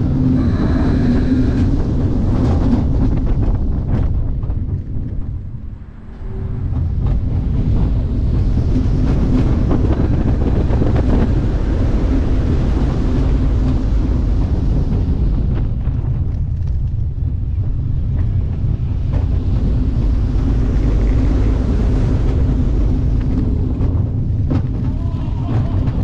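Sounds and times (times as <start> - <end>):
deep rumble of coaster wheels: 0.0 - 26.0
wind rushing over microphone: 0.0 - 26.0.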